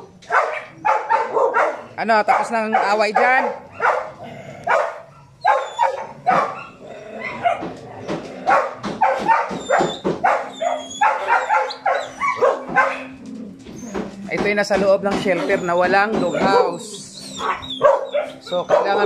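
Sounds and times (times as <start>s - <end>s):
dogs barking and yipping: 0.0s - 14.3s, 15.1s - 19.0s.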